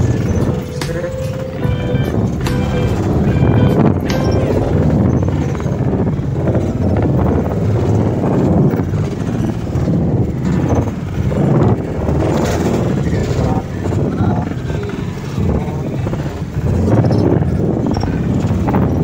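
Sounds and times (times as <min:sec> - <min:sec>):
cars driving past: 0:00.0 - 0:18.9.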